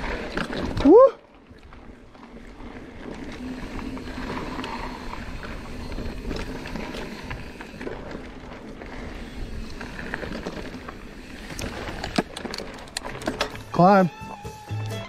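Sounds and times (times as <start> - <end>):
bike tyres rolling on gravel: 0.0 - 14.2
bike rattling: 0.0 - 14.4.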